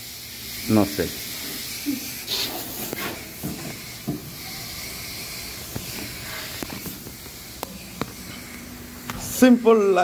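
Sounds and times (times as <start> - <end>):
hose spraying water: 0.0 - 10.0.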